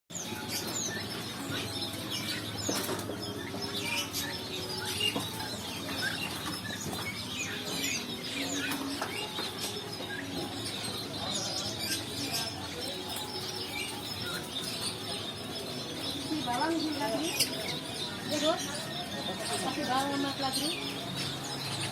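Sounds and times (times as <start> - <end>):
quail chirping: 0.2 - 21.9.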